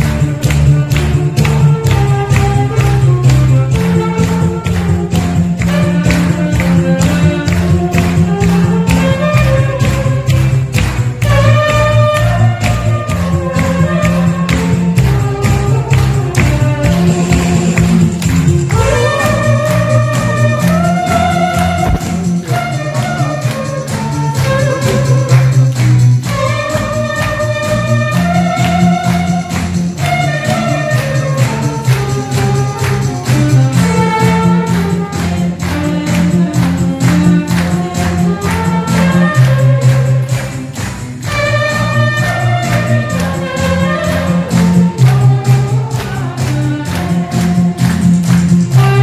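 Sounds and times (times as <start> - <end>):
backing track with bass and beat: 0.0 - 49.0
congregation clapping in time: 0.0 - 49.0
saxophone melody: 0.0 - 49.0.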